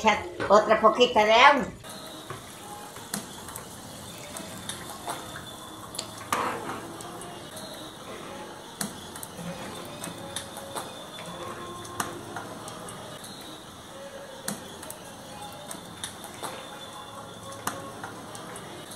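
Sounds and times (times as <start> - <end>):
water pouring into pot: 1.9 - 18.9.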